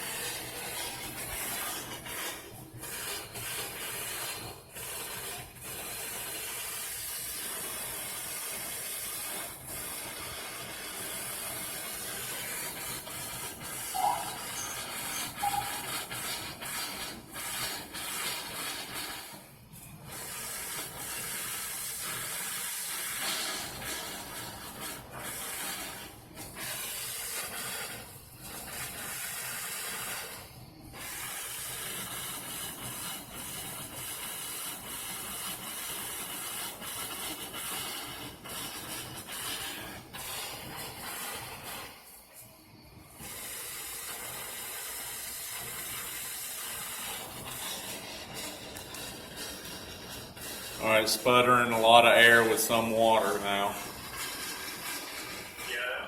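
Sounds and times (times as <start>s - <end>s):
air and water hissing and sputtering: 0.0s - 56.0s.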